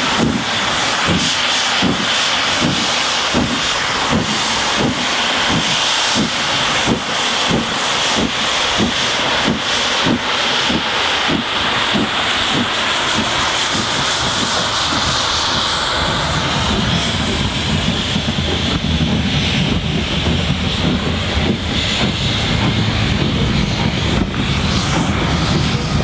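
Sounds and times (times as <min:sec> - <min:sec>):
exhaust and rail beats: 0:00.0 - 0:26.0
steam locomotive rumble and hiss: 0:00.0 - 0:26.0.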